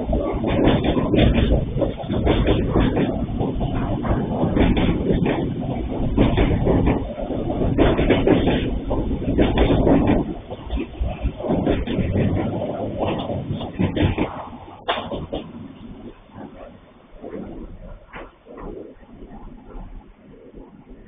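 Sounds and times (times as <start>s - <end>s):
freight train rolling past: 0.0s - 21.0s
wheels clicking and knocking: 0.0s - 21.0s.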